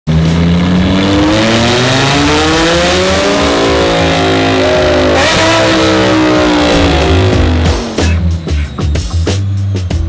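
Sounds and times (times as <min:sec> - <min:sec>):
sports car engine revving: 0:00.1 - 0:08.8.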